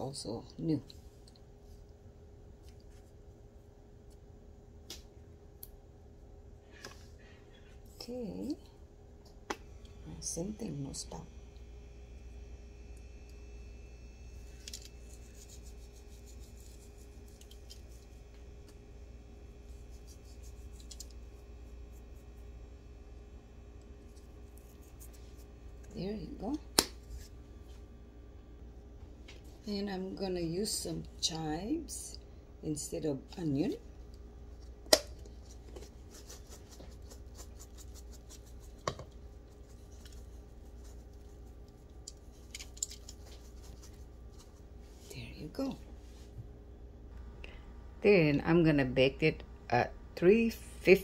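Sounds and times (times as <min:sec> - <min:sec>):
low hum: 0:00.0 - 0:51.0.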